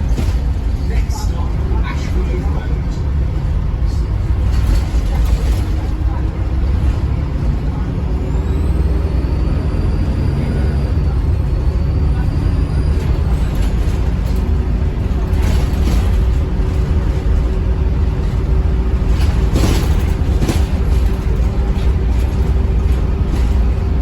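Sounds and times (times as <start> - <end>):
bus diesel engine rumbling: 0.0 - 24.0.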